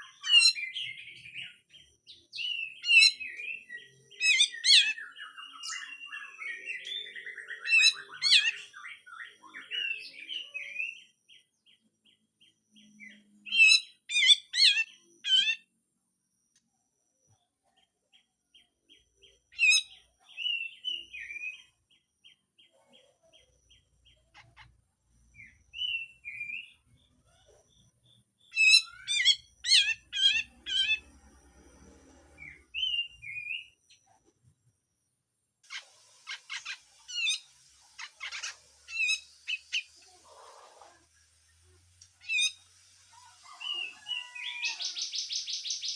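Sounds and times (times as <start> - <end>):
bird singing harsh song: 0.0 - 15.7, 17.8 - 31.3, 32.4 - 34.2, 35.7 - 40.1, 43.4 - 45.9.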